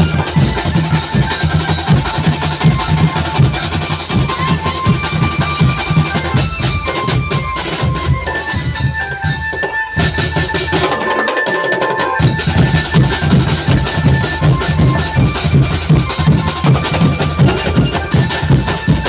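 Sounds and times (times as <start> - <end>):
drums beating steady rhythm: 0.0 - 19.0
high melody of held notes: 0.0 - 19.0.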